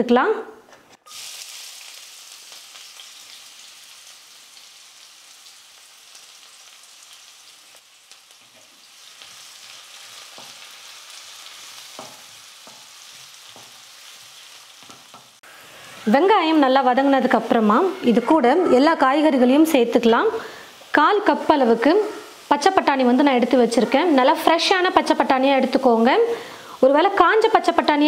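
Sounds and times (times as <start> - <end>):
vegetables sizzling in hot oil: 1.1 - 18.2, 19.0 - 28.0.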